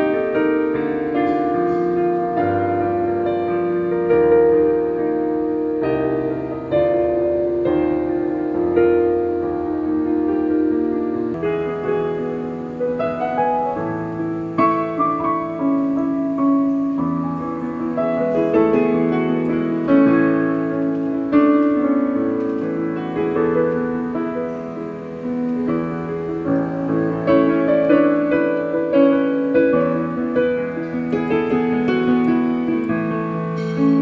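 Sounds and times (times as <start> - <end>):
piano melody over chords: 0.0 - 34.0.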